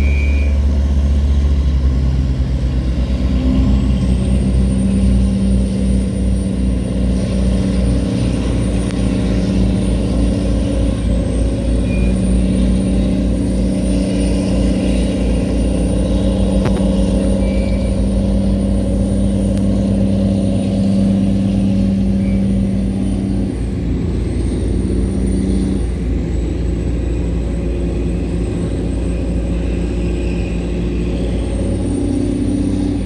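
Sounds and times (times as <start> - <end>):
diesel engine pulsing drone: 0.0 - 33.0.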